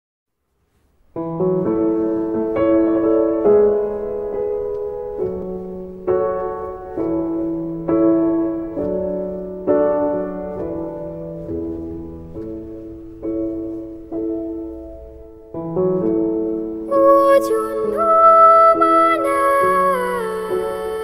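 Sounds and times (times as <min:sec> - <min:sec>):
piano music: 0:01.0 - 0:21.0.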